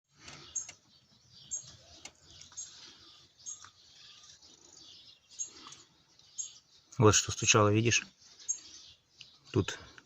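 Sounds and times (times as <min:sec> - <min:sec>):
bird chirping: 0:00.1 - 0:10.0.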